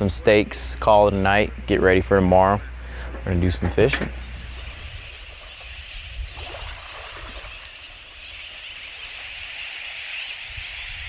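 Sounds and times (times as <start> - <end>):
lower falling bird calls: 0.0 - 11.0
seabird flock calling: 0.0 - 11.0.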